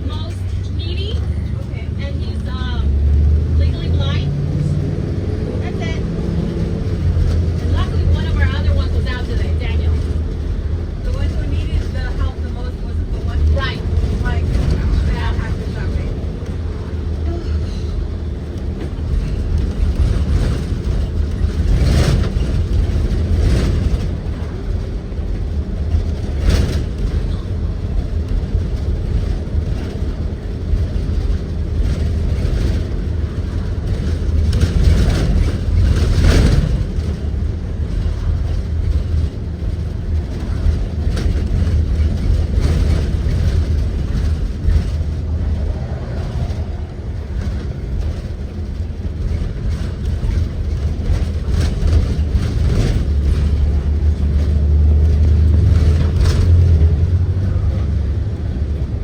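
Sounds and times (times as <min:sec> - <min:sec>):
bus ride rumble: 0:00.0 - 0:59.0
knocks and rattles: 0:03.5 - 0:59.0.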